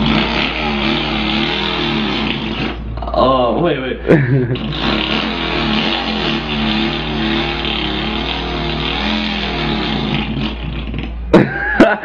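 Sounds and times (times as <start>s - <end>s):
man imitating engine with mouth: 0.0s - 3.2s, 4.5s - 11.6s.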